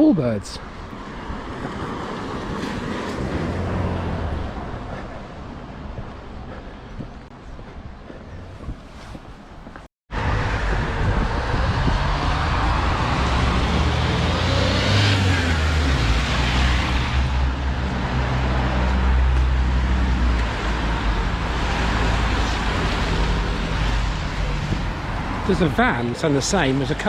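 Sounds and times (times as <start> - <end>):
vehicle passing: 1.3 - 7.3, 10.1 - 27.0.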